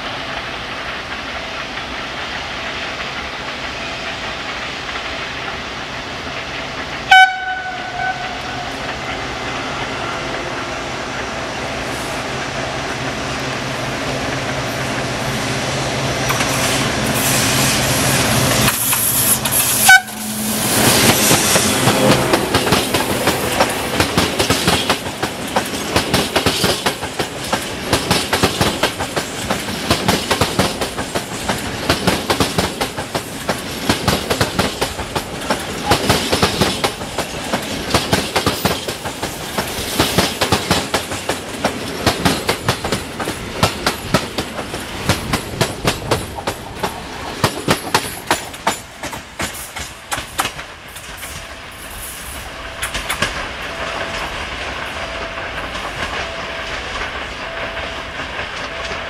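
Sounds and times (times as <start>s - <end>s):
diesel locomotive engine passing: 0.0s - 59.0s
wheels clacking over rail joints: 0.0s - 59.0s.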